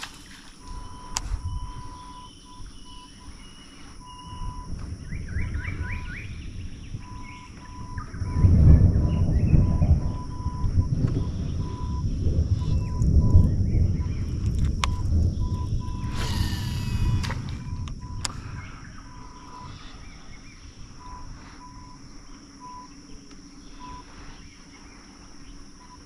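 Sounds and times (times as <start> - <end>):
birds chirping: 0.0 - 26.0
low gusty rumble: 0.6 - 26.0.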